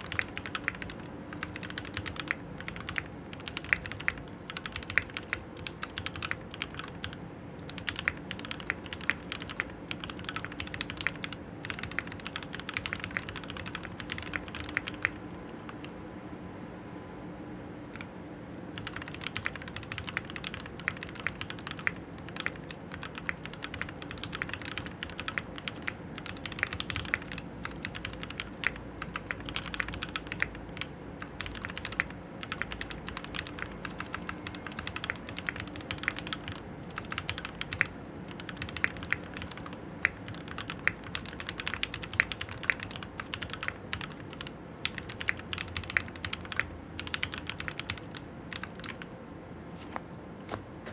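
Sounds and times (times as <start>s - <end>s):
mechanical keyboard typing: 0.0s - 16.0s, 18.8s - 49.1s.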